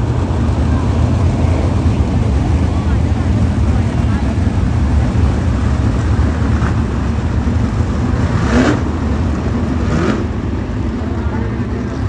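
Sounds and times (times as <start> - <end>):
race car engines rumbling: 0.0 - 12.0
race car revving: 0.0 - 12.0.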